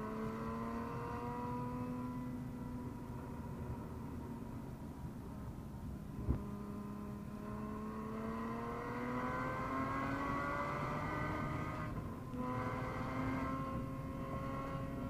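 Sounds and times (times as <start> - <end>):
car engine accelerating: 0.0 - 4.5, 6.1 - 15.0.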